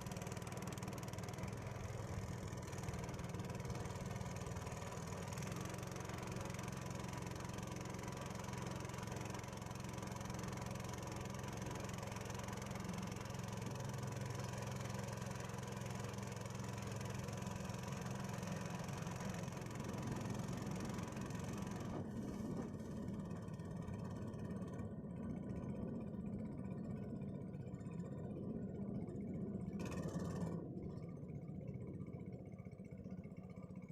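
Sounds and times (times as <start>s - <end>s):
small boat engine running: 0.0s - 33.9s.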